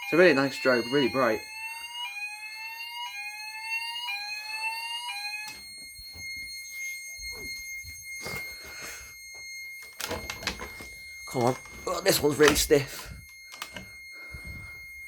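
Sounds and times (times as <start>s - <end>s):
fire alarm rising sweep tone: 0.0s - 15.0s
high buzzer tone: 0.0s - 15.0s.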